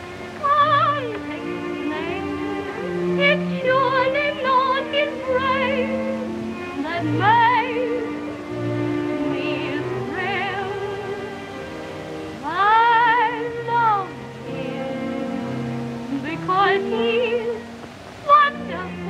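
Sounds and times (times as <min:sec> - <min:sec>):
orchestra holding sustained chords: 0:00.0 - 0:19.0
woman singing with vibrato: 0:00.0 - 0:19.0.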